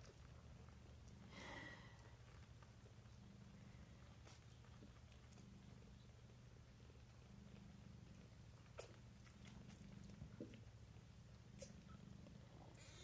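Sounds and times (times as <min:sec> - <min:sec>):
cats purring: 0:00.0 - 0:13.0
kittens suckling: 0:00.0 - 0:13.0.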